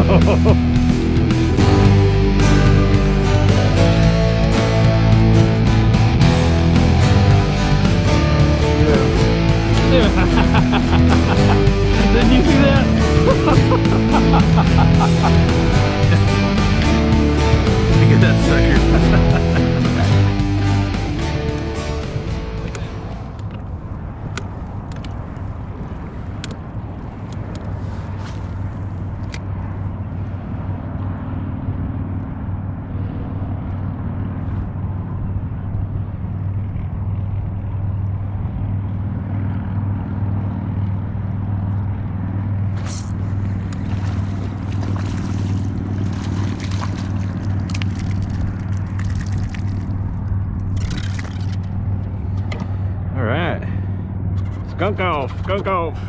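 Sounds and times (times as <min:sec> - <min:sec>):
boat motor humming: 0:00.0 - 0:56.0.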